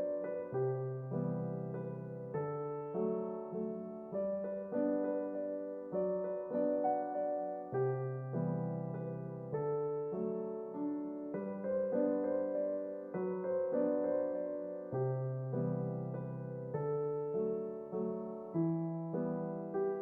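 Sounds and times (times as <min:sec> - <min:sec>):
soft piano chords: 0:00.0 - 0:20.0.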